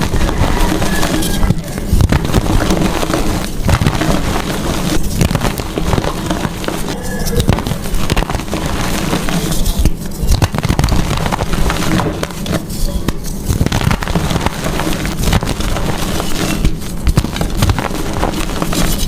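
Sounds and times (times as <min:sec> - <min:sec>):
chalk crushing and crumbling: 0:00.0 - 0:19.0.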